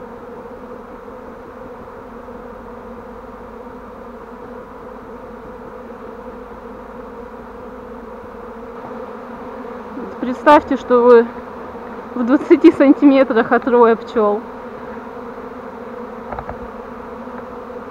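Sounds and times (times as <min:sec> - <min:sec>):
bees buzzing: 0:00.0 - 0:17.9.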